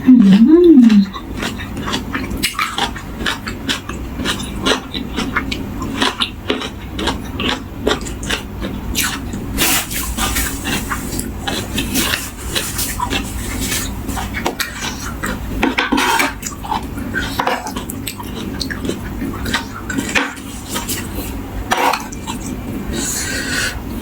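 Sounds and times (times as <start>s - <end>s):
crackly eating clicks: 0.3s - 22.6s.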